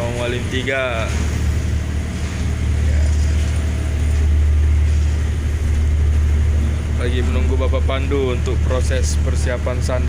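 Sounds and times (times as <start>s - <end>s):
ship engines droning: 0.0s - 10.0s.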